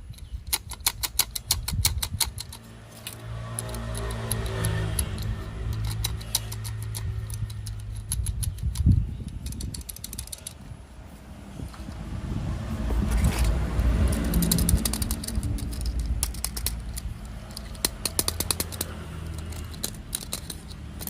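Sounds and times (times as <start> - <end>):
plastic toy parts clicking: 0.0 - 10.8, 13.1 - 21.0.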